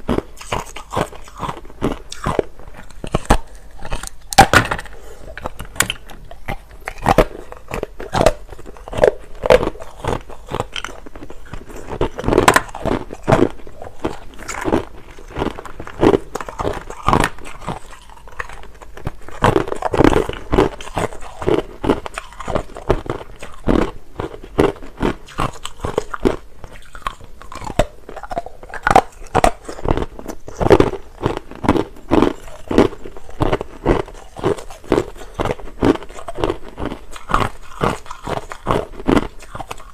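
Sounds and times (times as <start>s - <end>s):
person chewing crushed ice: 0.0s - 39.9s.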